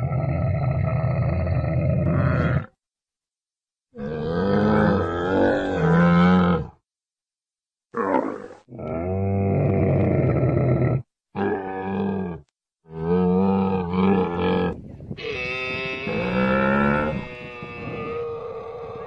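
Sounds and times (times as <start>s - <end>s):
camels grunting and groaning: 0.0s - 2.8s, 3.9s - 6.8s, 8.0s - 19.0s.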